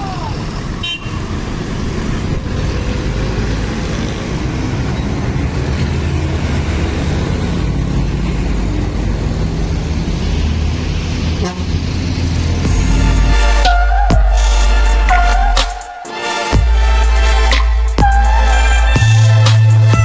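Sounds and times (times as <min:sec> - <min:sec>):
bus diesel engine passing: 0:00.0 - 0:20.0
street traffic noise: 0:00.0 - 0:20.0.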